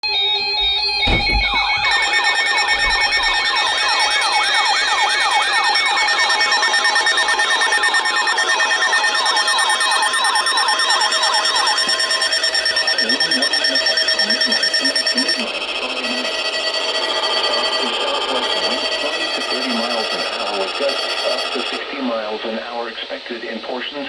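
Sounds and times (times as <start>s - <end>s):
siren-like warble: 0.0s - 23.7s
steady alarm tones: 0.0s - 24.0s.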